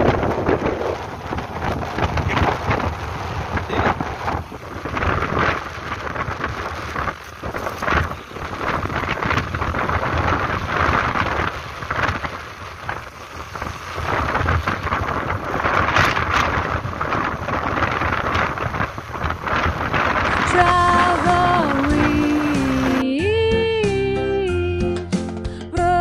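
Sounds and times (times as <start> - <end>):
wind buffeting microphone: 0.0 - 23.1
road and engine rumble: 0.0 - 26.0.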